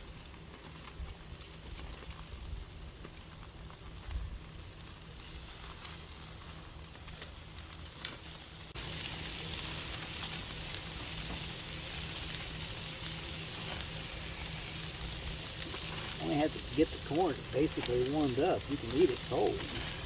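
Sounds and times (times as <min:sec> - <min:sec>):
food sizzling on a grill: 0:00.0 - 0:20.0.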